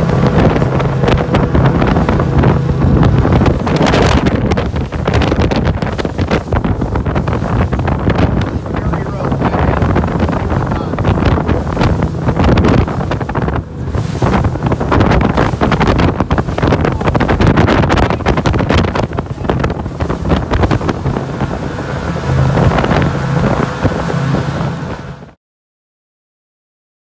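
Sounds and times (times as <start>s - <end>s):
outboard motors running: 0.0s - 25.4s
wind buffeting microphone: 0.0s - 25.4s.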